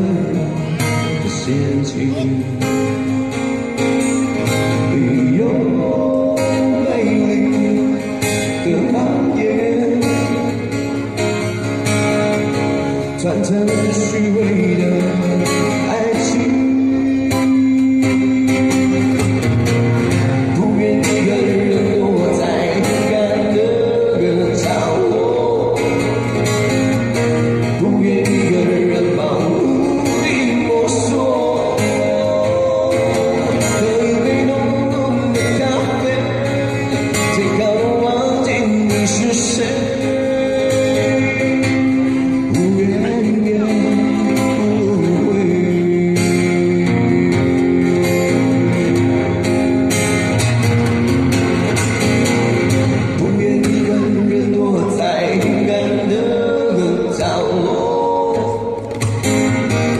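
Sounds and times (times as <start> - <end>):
guitar accompaniment: 0.0 - 59.9.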